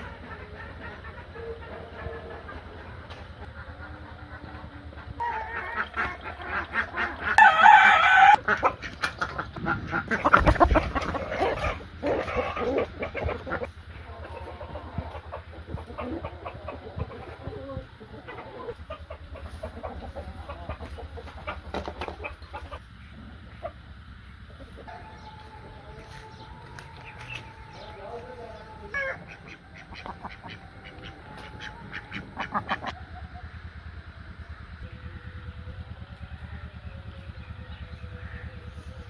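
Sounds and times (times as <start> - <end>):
low steady hum: 0.0 - 39.0
poultry calling: 0.0 - 39.0.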